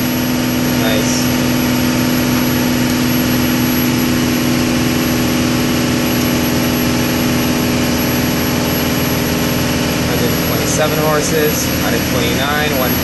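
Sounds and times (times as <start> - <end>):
diesel engine running hard: 0.0 - 13.0.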